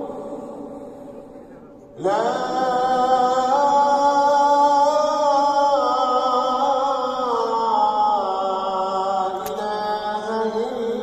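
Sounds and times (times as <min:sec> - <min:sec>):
person chanting recitation: 0:00.0 - 0:11.0.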